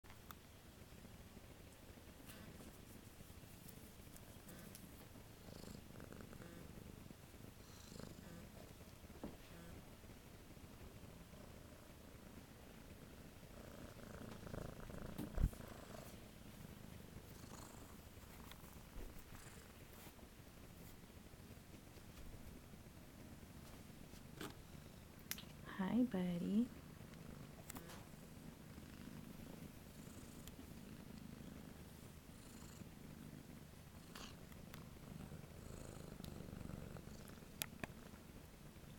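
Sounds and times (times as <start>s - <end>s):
kitten purring: 0.2s - 38.9s.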